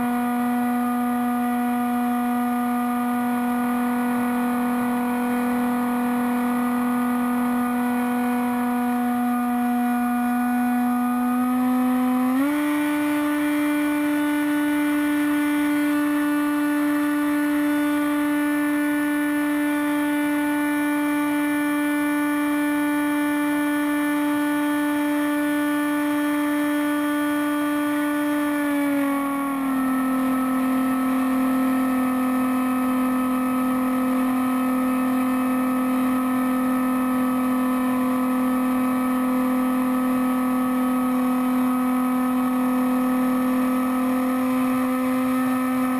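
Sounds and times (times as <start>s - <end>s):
electric motor and propeller whine: 0.0s - 45.9s.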